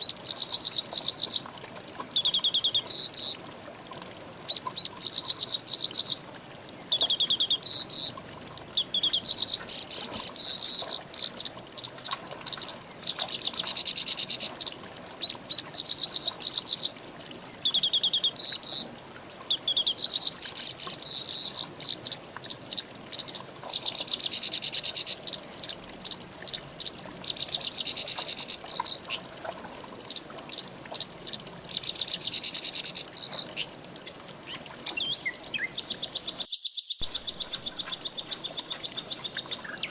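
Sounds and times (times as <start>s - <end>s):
songbirds trilling: 0.0s - 3.7s, 4.5s - 39.9s.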